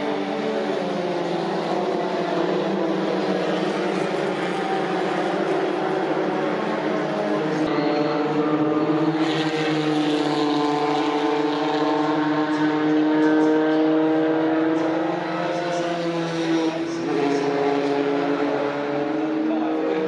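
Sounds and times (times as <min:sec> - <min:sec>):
racing car engines at high revs: 0:00.0 - 0:20.0.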